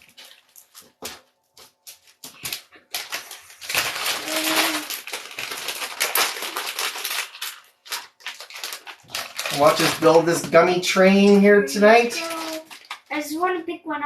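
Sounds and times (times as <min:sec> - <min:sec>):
plastic candy packaging crinkling: 0:00.0 - 0:13.6.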